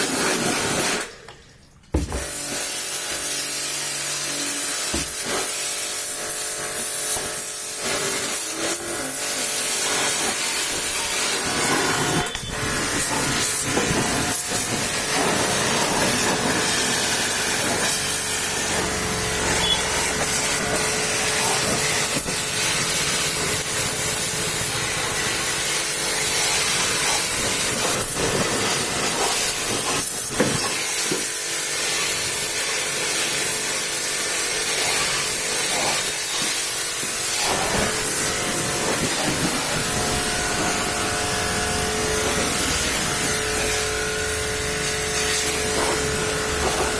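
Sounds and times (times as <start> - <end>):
high-pressure water spray hissing: 0.0 - 1.1, 2.1 - 46.9.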